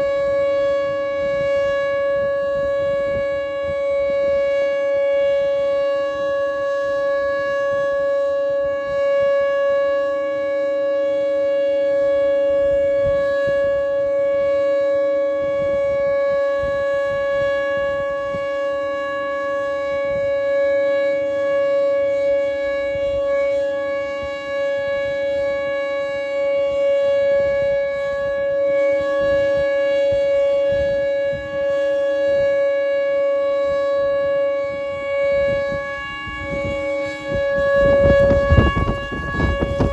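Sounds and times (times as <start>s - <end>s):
tornado warning siren steady tone: 0.0s - 39.9s
weaker lower siren tone: 0.0s - 39.9s.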